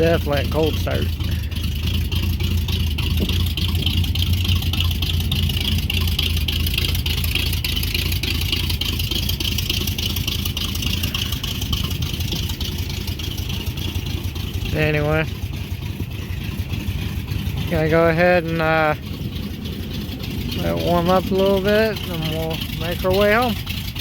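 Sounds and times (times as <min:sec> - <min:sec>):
pickup engine idling: 0:00.0 - 0:24.0.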